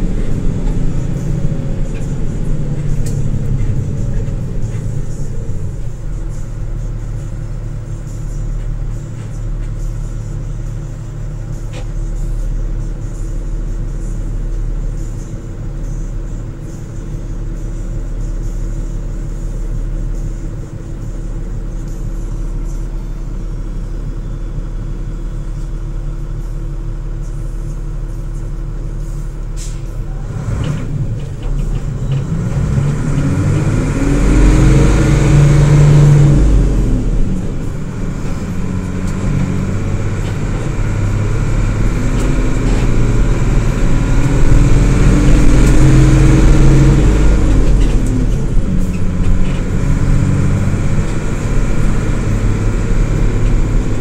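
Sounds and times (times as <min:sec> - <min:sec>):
diesel bus engine: 0:00.0 - 0:54.0.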